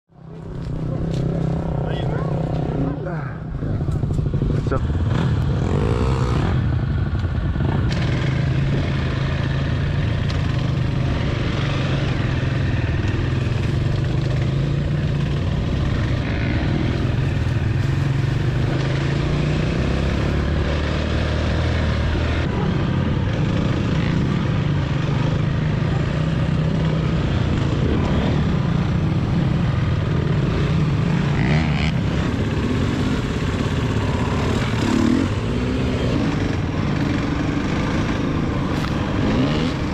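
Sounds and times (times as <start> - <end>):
dirt bike engine revving: 4.2 - 6.7, 7.6 - 39.9.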